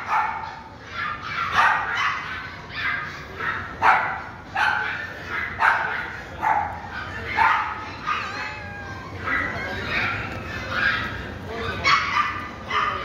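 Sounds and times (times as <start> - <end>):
puppies yapping: 0.0 - 13.0.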